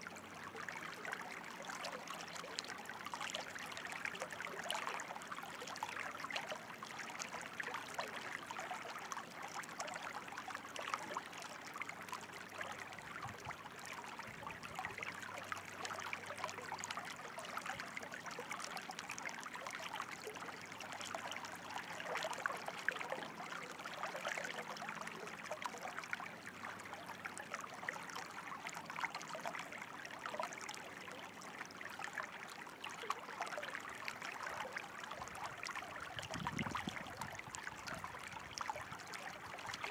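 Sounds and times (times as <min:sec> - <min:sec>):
flowing water splashing: 0:00.0 - 0:39.9.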